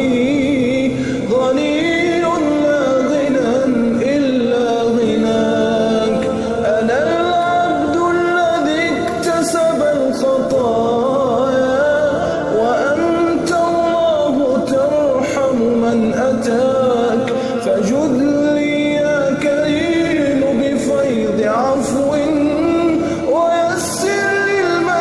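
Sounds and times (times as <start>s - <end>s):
man singing ornamented melody: 0.0s - 25.0s.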